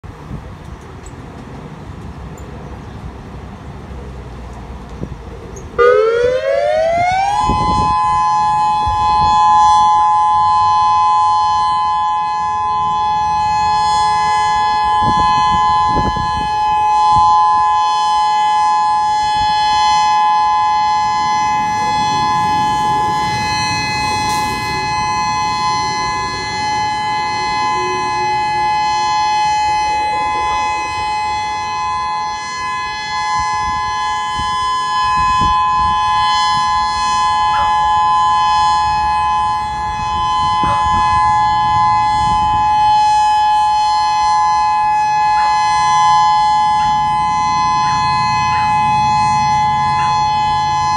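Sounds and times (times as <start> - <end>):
warning siren steady tone: 5.0 - 50.9.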